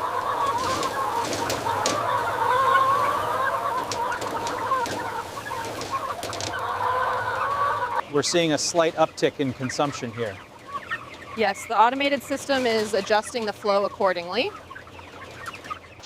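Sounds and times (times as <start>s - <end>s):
chickens clucking and peeping: 0.0s - 16.0s.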